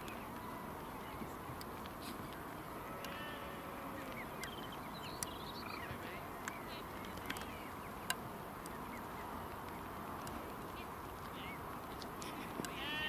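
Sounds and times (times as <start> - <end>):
birds chirping and peeping: 0.0 - 13.0
steady background hiss: 0.0 - 13.0.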